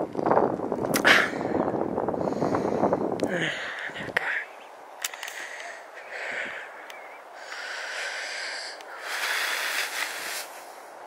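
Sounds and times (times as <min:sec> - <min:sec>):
person breathing close to microphone: 0:01.0 - 0:04.3, 0:05.0 - 0:11.0.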